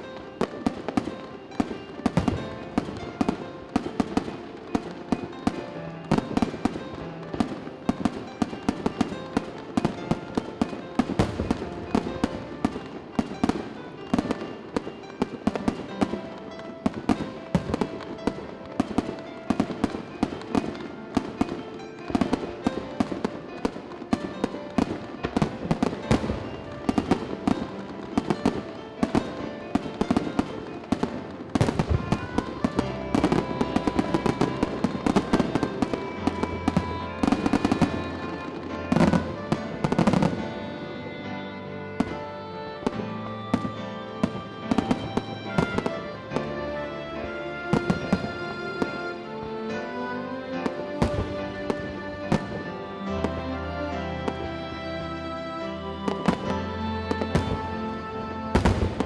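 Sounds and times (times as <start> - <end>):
firework shells bursting: 0.0 - 49.8, 50.6 - 53.4, 56.0 - 59.0
music playing: 0.0 - 59.0.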